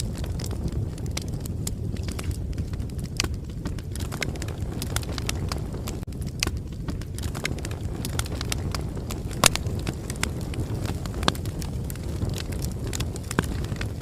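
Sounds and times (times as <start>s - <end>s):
bonfire flames rumbling: 0.0s - 14.0s
burning wood crackling and popping: 0.0s - 14.0s.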